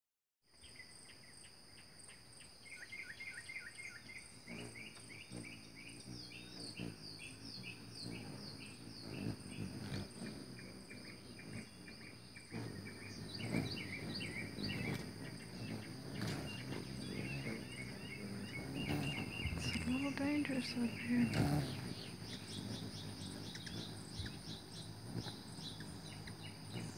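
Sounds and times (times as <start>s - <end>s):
insects droning: 0.5s - 26.9s
hummingbird wings buzzing: 0.6s - 26.9s
hummingbird chip calls: 2.7s - 26.9s.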